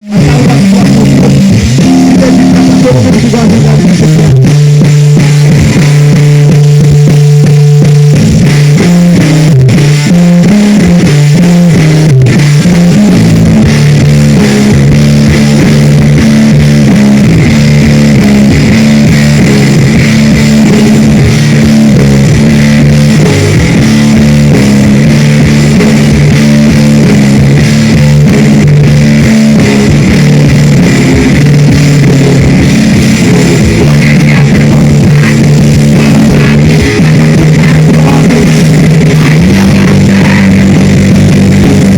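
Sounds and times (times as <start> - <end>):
bass guitar: 0.0 - 41.9
distorted electric guitar riffing: 0.0 - 41.9
fast drum kit: 0.0 - 41.9.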